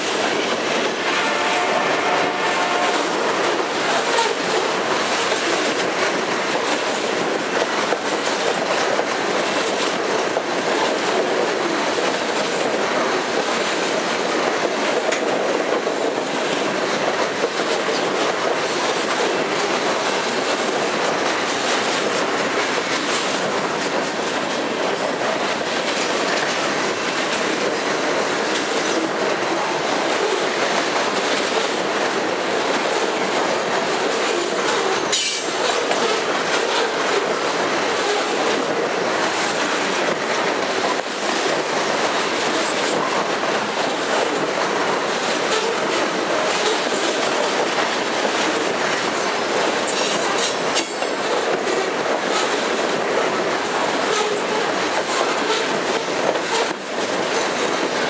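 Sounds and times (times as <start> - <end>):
train wheels rumbling over rail joints: 0.0 - 58.0.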